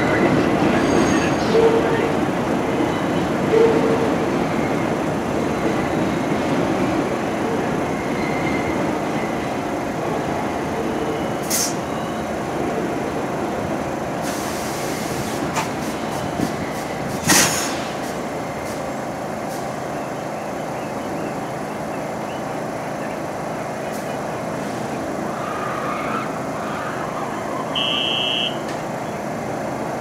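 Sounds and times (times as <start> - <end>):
subway train running: 0.0 - 30.0.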